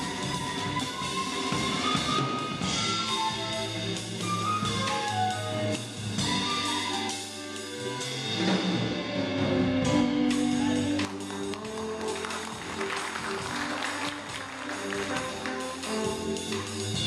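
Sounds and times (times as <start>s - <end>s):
drum kit with ringing cymbals: 0.0s - 17.0s
walking upright bass: 0.0s - 17.0s.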